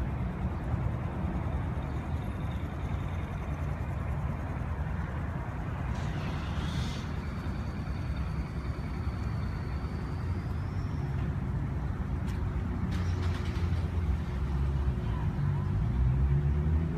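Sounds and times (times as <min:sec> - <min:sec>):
faint thin whine: 0:00.0 - 0:15.6.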